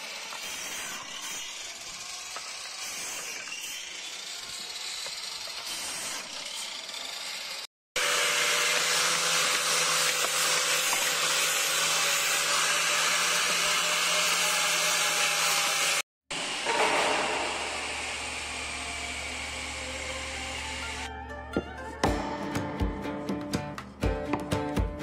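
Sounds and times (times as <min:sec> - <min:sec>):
angle grinder cutting bamboo: 0:00.0 - 0:21.1.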